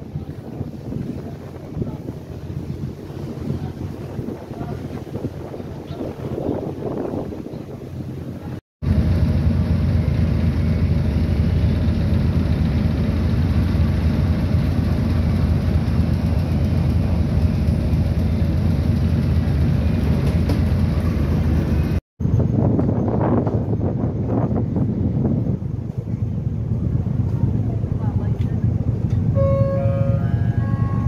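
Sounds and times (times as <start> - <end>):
ship engines low rumble: 0.0 - 31.0.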